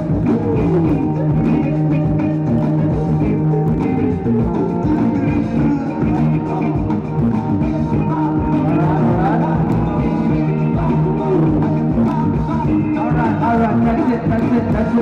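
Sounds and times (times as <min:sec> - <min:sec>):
loud rock music over loudspeakers: 0:00.0 - 0:15.0.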